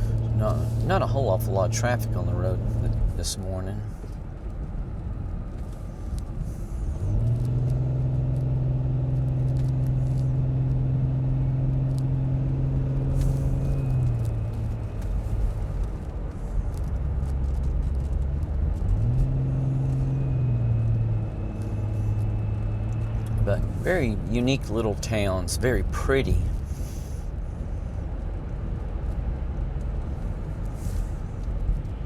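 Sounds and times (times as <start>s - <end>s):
car engine drone: 0.0s - 32.0s.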